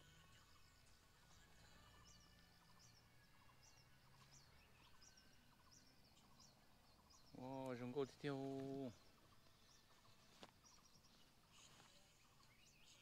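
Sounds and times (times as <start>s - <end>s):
faint high bird chirps: 0.0s - 13.0s.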